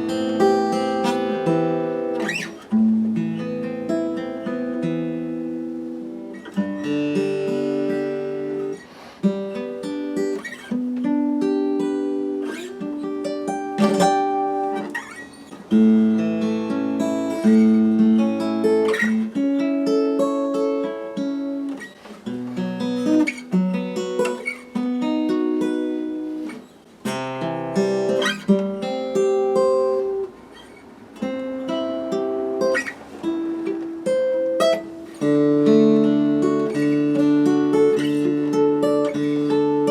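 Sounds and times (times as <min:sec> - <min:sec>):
acoustic guitar chords and plucking: 0:00.0 - 0:39.9.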